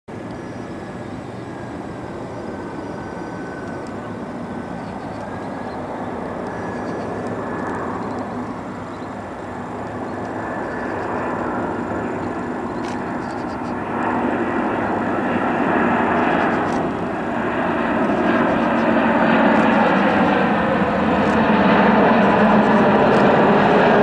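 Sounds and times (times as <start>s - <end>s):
jet engines on approach: 0.1s - 24.0s.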